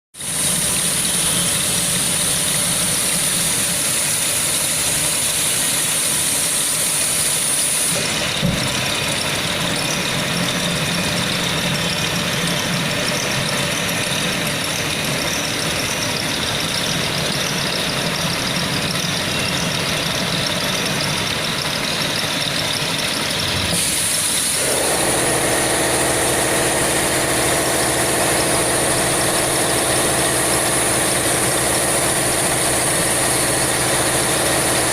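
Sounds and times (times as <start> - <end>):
cnc router high whine: 0.2 - 34.9
steady machine hum: 0.2 - 34.9.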